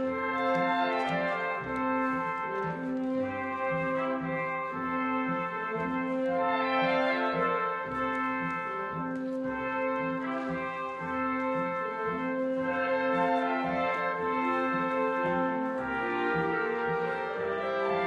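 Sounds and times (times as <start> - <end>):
french horn holding slow notes: 0.0 - 18.0
orchestral brass music: 0.0 - 18.0.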